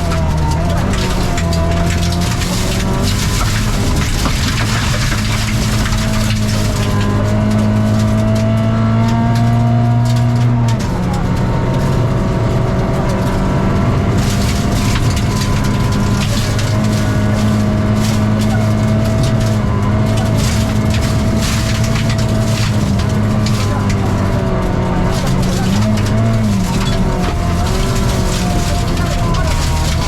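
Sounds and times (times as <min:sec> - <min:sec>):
rally car engine pulling hard: 0:00.0 - 0:30.0.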